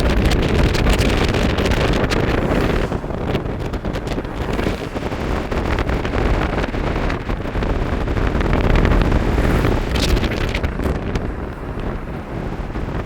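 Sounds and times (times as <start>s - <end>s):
low steady rumble: 0.0s - 13.0s
wind buffeting microphone: 0.0s - 13.0s.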